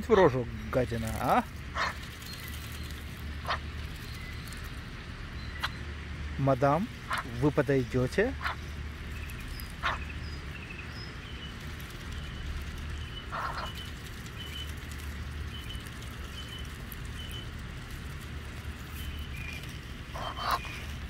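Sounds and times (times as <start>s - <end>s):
low steady hum: 0.0s - 21.0s
small birds chirping: 0.0s - 21.0s.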